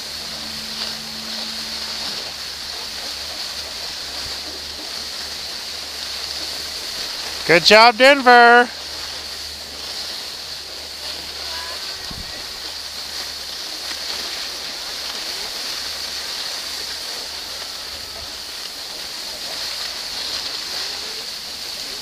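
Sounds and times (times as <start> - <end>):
skis sliding over snow: 0.0 - 22.0.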